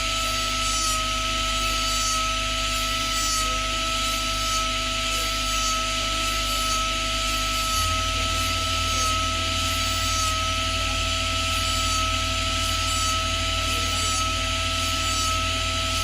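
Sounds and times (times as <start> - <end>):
cnc machine high whine: 0.0 - 16.0
metal cutting rasping scrape: 2.8 - 16.0.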